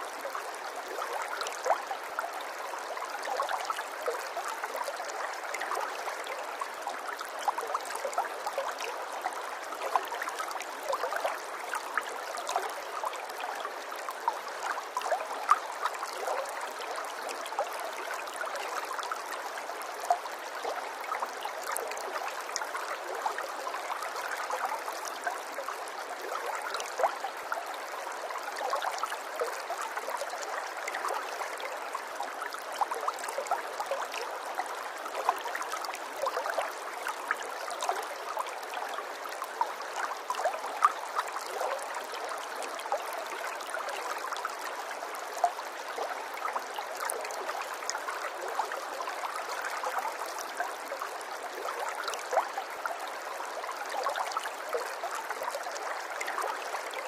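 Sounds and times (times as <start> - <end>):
stream water splashing and gurgling: 0.0 - 57.0.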